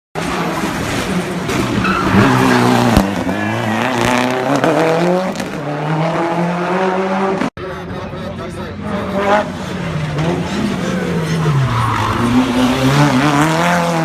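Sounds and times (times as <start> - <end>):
race car engine at full throttle: 0.2 - 14.0.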